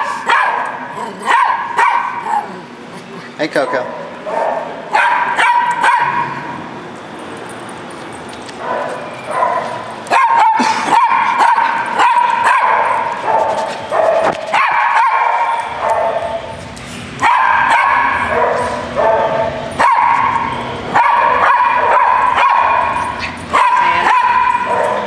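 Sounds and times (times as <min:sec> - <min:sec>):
small dogs barking: 0:00.0 - 0:02.8, 0:03.6 - 0:06.5, 0:08.6 - 0:16.6, 0:17.2 - 0:25.0.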